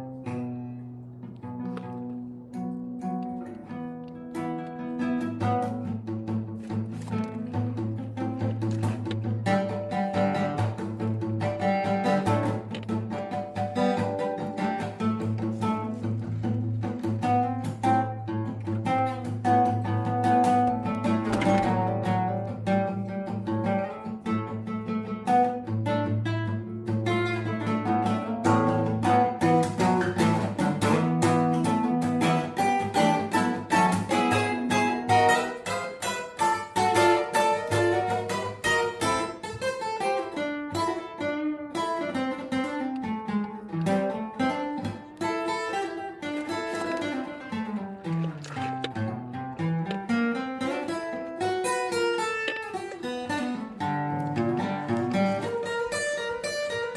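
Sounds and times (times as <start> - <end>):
picked acoustic guitar notes: 0.0 - 56.9.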